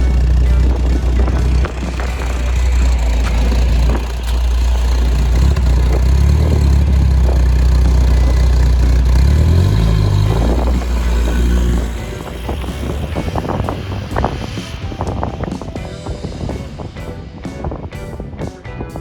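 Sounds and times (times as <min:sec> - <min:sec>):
car engine running loudly under load: 0:00.0 - 0:17.8.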